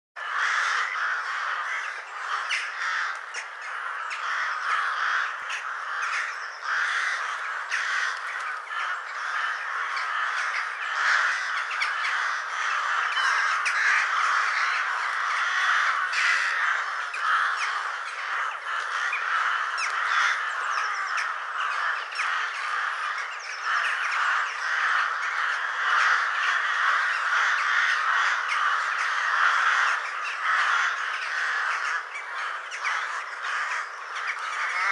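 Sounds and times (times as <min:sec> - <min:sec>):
chorus of birds calling: 0:00.2 - 0:34.9
ravens calling: 0:00.2 - 0:34.9.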